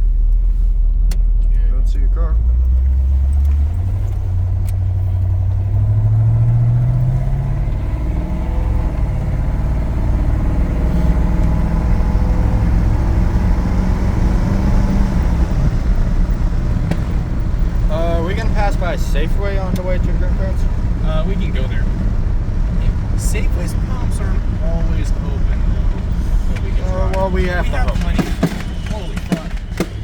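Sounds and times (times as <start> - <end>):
pickup engine accelerating: 0.0 - 30.0
road noise: 0.0 - 30.0.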